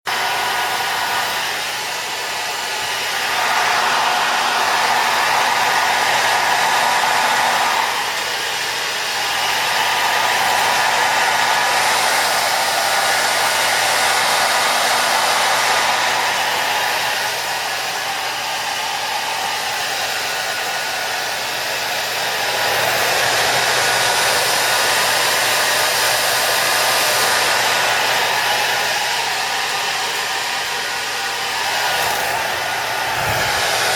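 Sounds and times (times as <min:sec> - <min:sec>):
hair dryer blowing: 0:00.0 - 0:33.9.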